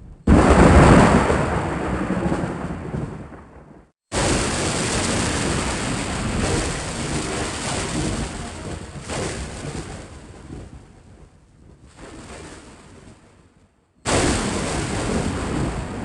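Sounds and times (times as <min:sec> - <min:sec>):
thunder rumbling: 0:00.0 - 0:16.0
thunderclap: 0:00.0 - 0:16.0.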